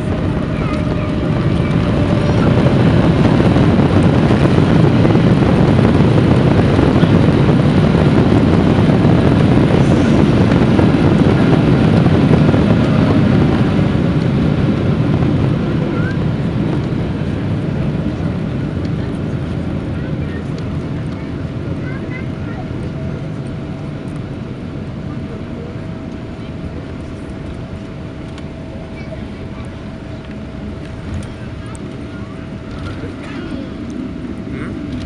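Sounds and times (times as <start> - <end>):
jet engine rumble: 0.0 - 35.0.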